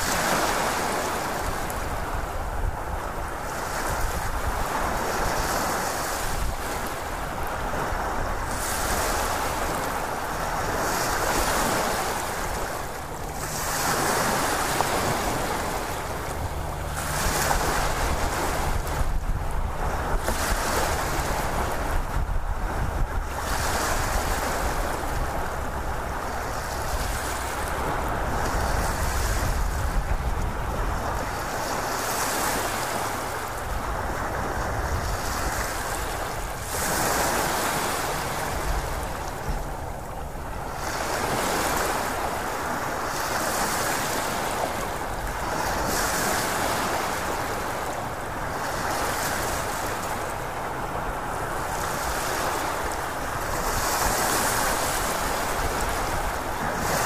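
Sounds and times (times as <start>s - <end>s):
ocean waves washing: 0.0s - 57.0s.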